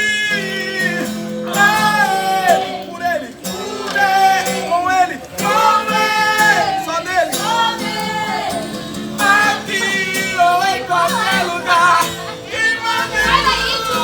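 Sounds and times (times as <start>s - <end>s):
guitar: 0.0s - 14.0s
person singing worship song: 0.0s - 14.0s.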